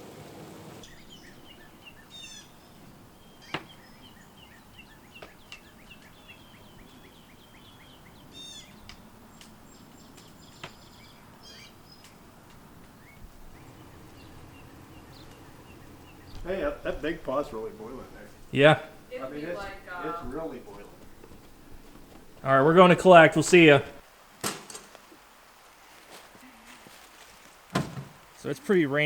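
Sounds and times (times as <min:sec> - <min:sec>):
songbirds chirping: 0:00.6 - 0:29.0.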